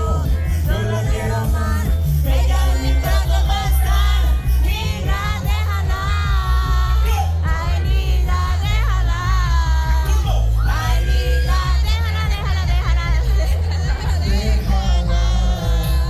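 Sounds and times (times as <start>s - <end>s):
backing track with bass: 0.0s - 16.0s.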